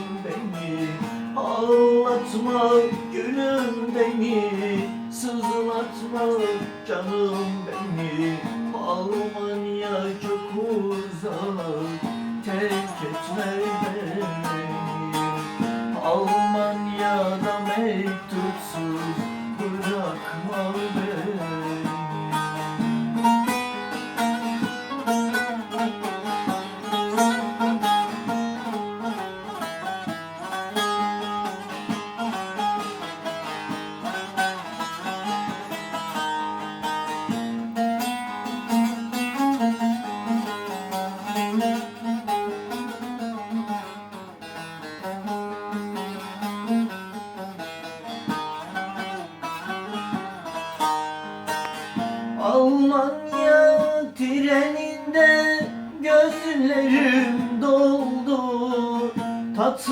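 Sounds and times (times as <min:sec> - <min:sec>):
plucked string melody: 0:00.0 - 0:59.9.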